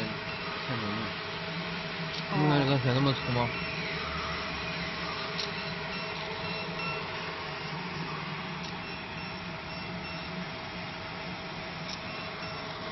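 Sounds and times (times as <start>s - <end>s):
faint constant whine: 0.0s - 12.9s
laser marking machine humming: 0.0s - 12.9s.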